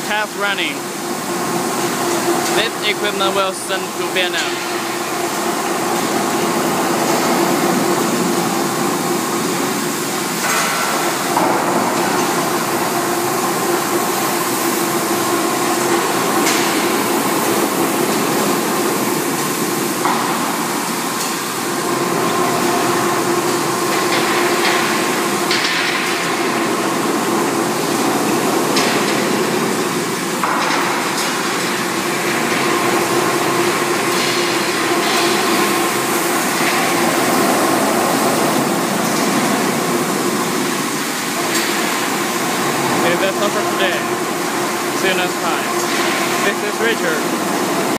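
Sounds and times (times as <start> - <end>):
rotary drum dryer droning: 0.0 - 47.9.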